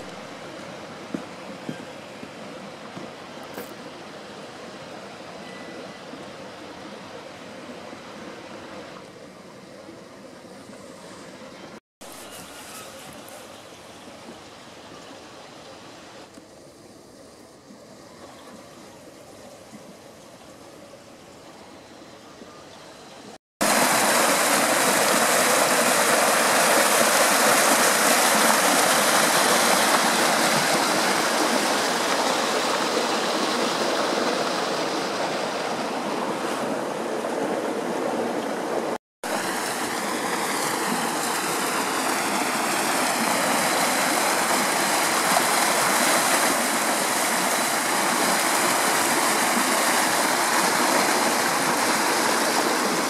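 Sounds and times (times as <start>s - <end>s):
water rushing along channel: 0.0s - 22.5s, 23.2s - 53.0s.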